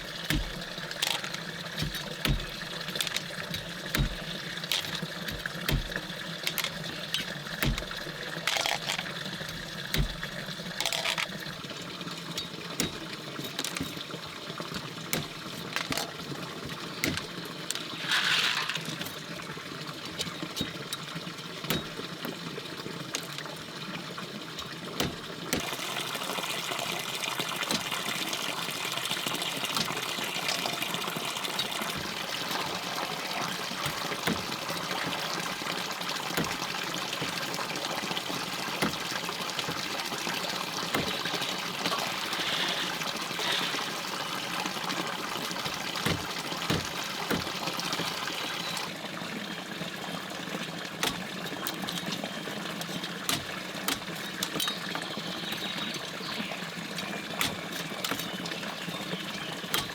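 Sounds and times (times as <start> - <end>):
small knocks and clicks: 0.0 - 25.8, 27.6 - 28.5, 29.6 - 43.8, 44.7 - 48.9, 50.9 - 59.9
stream water running: 0.0 - 59.9.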